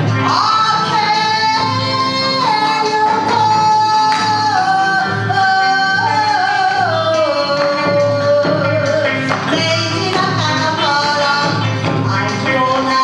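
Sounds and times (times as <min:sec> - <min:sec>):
live accompaniment with low beat: 0:00.0 - 0:13.0.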